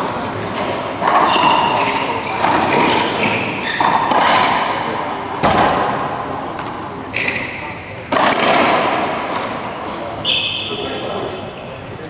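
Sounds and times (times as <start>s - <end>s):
racquetball echoing cracks: 0.1s - 11.2s.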